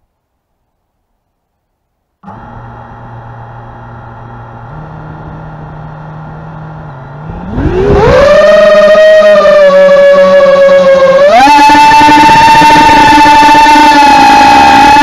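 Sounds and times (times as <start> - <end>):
drone motors humming: 2.2 - 15.0
drone motors rising whine: 2.2 - 15.0.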